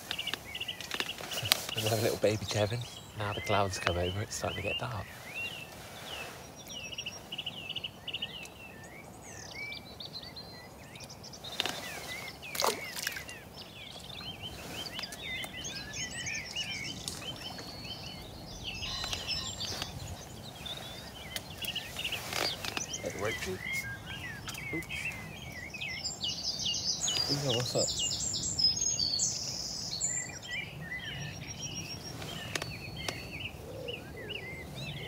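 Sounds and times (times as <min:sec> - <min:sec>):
small birds chirping: 0:00.0 - 0:35.0
steady outdoor hush: 0:00.0 - 0:35.0.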